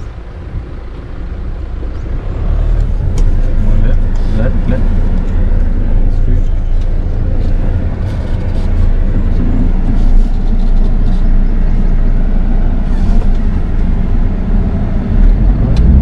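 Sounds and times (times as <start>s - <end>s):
engine and tyres rumbling: 0.0s - 16.0s.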